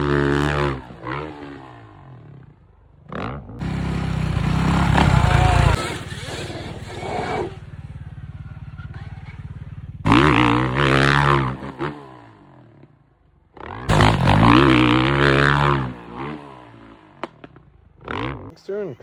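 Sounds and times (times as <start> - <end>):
dirt bike engine revving: 0.0 - 13.0, 13.6 - 18.5.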